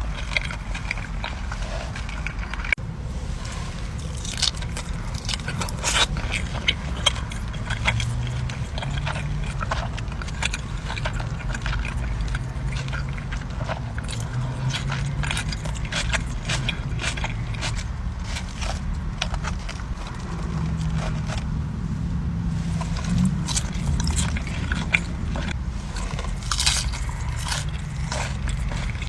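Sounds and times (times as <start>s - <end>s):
crunchy chewing: 0.0s - 29.0s
steady low hum: 0.0s - 29.0s.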